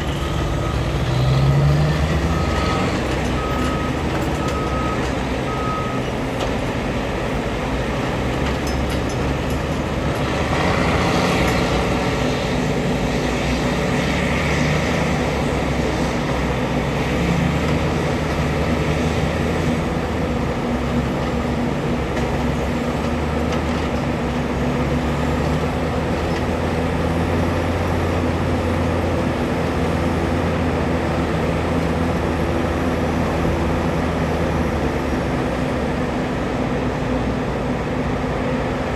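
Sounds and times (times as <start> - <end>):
diesel machinery engines droning: 0.0 - 38.9.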